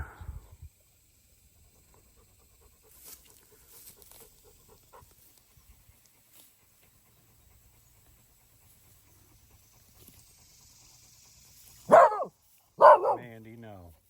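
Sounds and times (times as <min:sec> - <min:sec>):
dog panting: 0:01.7 - 0:13.2.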